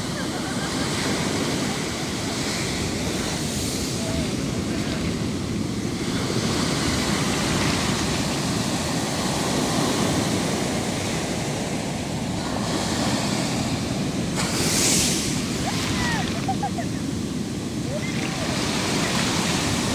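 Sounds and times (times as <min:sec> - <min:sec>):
sea surf breaking on beach: 0:00.0 - 0:19.9.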